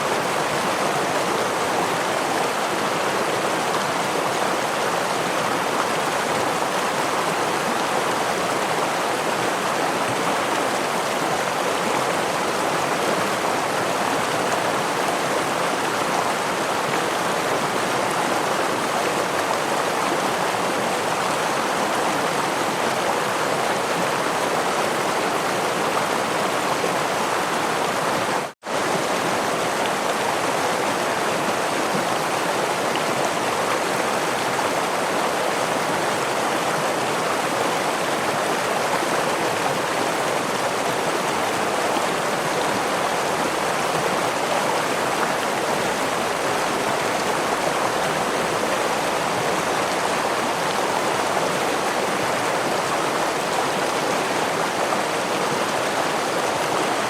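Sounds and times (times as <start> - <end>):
stream and small waterfall: 0.0 - 57.0.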